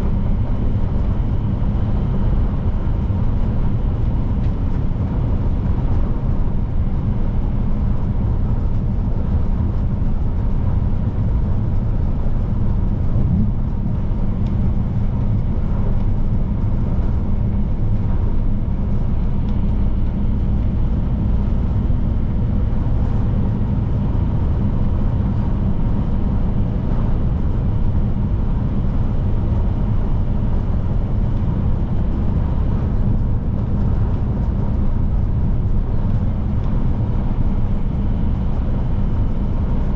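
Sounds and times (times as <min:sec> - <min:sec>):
road and tyre noise: 0:00.0 - 0:39.9
truck diesel engine running: 0:00.0 - 0:39.9.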